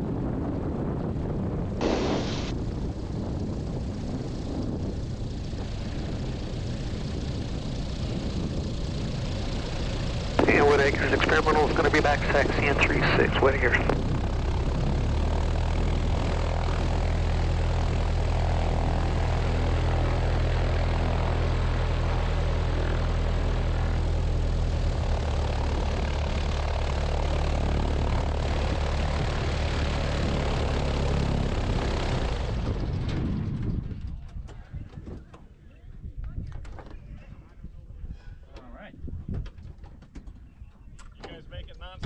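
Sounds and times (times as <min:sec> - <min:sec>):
light aircraft engine and propeller: 0:00.0 - 0:42.0.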